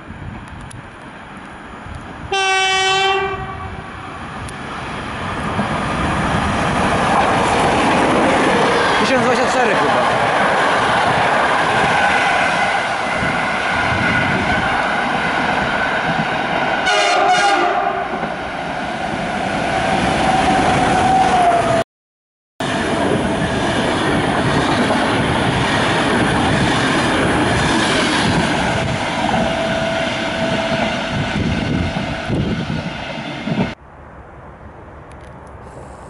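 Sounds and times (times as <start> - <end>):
electric train passing at speed: 0.0 - 21.8, 22.6 - 36.0.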